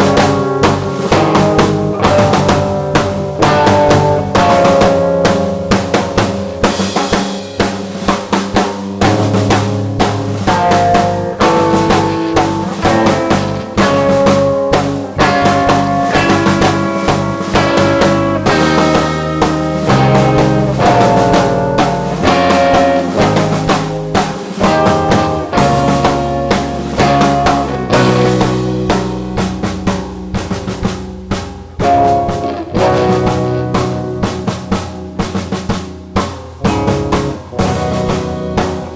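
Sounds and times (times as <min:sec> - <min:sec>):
band music: 0:00.0 - 0:38.9
snare and bass drum beat: 0:00.0 - 0:38.9.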